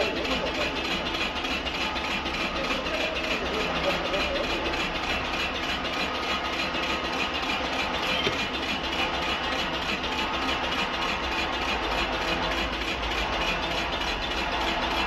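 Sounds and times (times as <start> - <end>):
wood lathe machine hum: 0.0 - 15.0.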